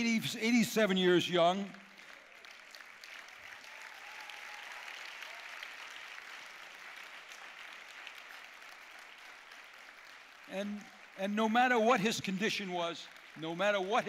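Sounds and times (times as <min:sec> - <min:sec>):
large audience applauding: 0:00.8 - 0:14.0.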